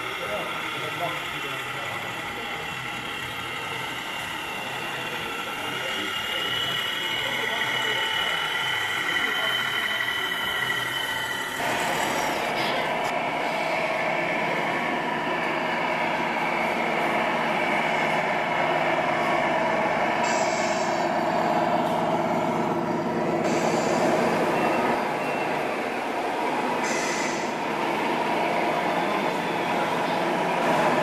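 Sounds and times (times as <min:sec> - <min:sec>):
simulated diesel truck engine: 0:00.0 - 0:31.0.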